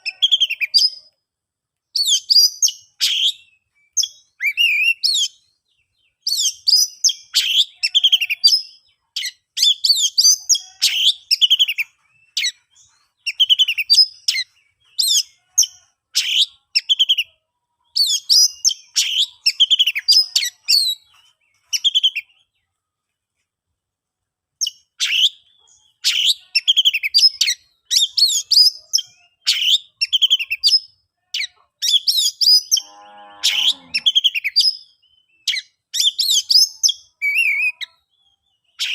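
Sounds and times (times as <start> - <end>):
bird singing whistles and chirps: 2.0 - 22.4, 24.6 - 32.9, 33.5 - 38.9.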